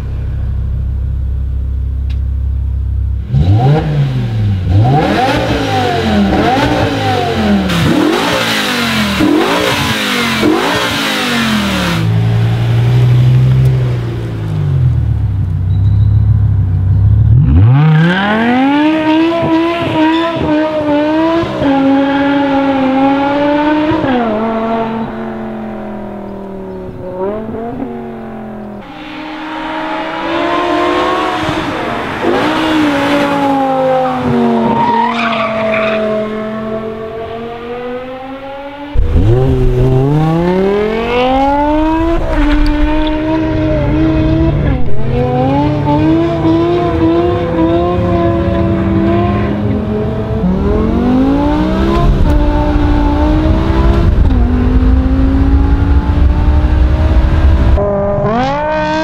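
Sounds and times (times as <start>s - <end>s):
car engine revving and accelerating: 3.2s - 15.5s, 16.6s - 59.0s.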